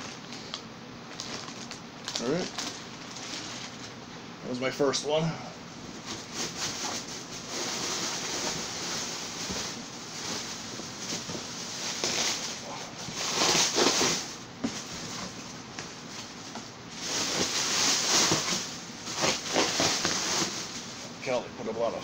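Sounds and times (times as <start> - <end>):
packaging rustling and crinkling: 0.0 - 4.0, 6.0 - 21.1.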